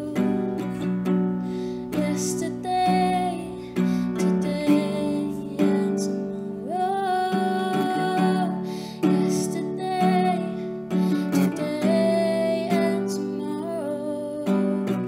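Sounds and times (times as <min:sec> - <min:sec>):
acoustic guitar strumming: 0:00.0 - 0:15.0
woman singing slow song: 0:00.0 - 0:15.0.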